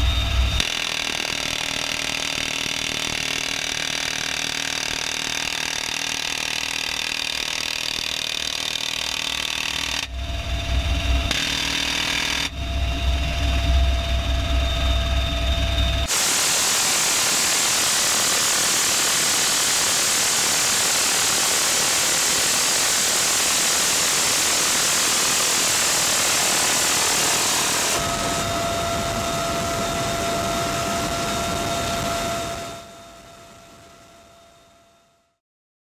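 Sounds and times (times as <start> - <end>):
helicopter rotor and wind noise: 0.0 - 35.2
high whine: 0.0 - 35.4.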